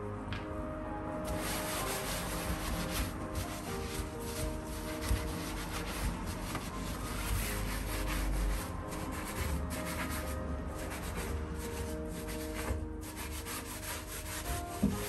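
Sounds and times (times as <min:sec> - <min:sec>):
sponge scrubbing wet steel: 0:01.3 - 0:15.0.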